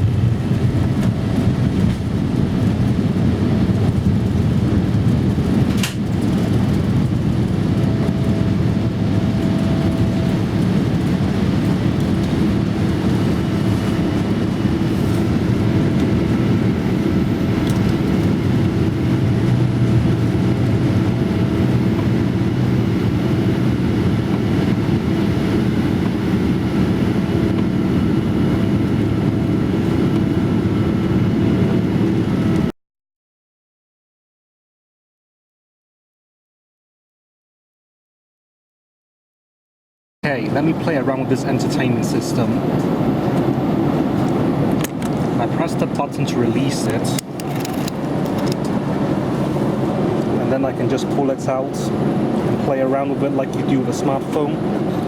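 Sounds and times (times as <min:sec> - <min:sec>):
faint engine whine: 0:00.0 - 0:32.7, 0:40.2 - 0:55.0
jet engine rumble in cabin: 0:00.0 - 0:32.7, 0:40.3 - 0:55.0.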